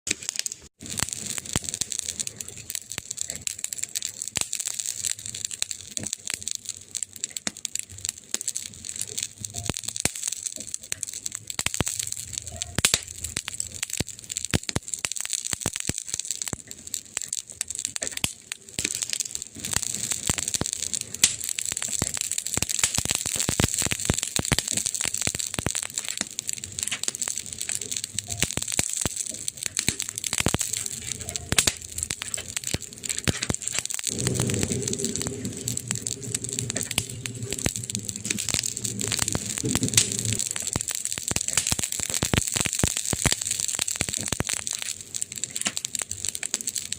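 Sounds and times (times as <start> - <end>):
fire hiss: 0.1 - 46.9
wood fire crackling and popping: 0.1 - 46.9.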